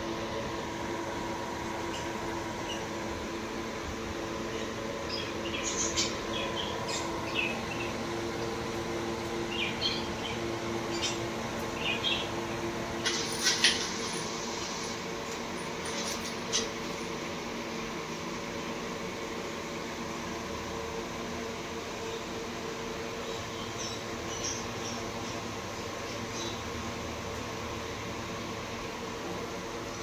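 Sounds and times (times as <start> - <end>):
air cooler fan hum: 0.0 - 30.0.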